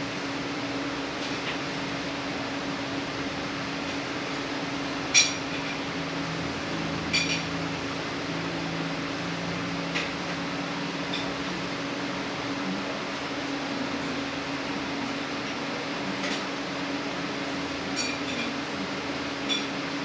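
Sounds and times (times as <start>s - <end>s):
shop hum: 0.0s - 20.0s.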